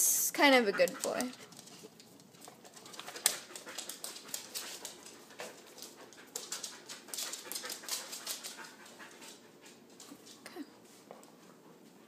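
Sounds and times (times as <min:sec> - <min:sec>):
dogs panting: 0:00.4 - 0:12.0.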